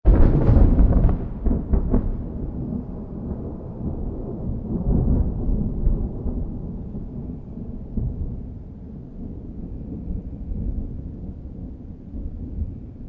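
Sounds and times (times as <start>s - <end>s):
thunder crack and rumble: 0.0s - 13.0s.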